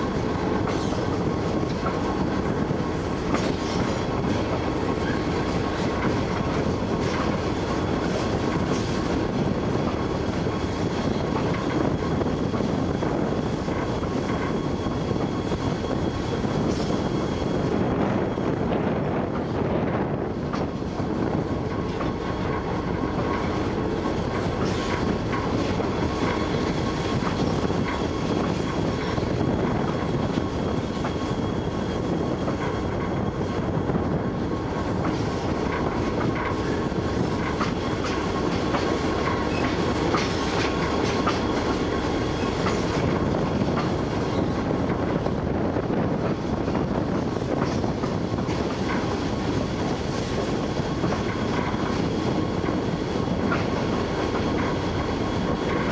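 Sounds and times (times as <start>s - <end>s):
model train rumbling on track: 0.0s - 55.9s.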